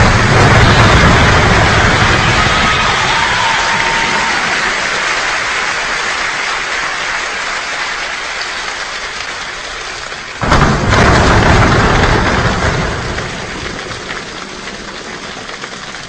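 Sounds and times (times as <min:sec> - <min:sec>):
choir body percussion rain: 0:00.0 - 0:16.0.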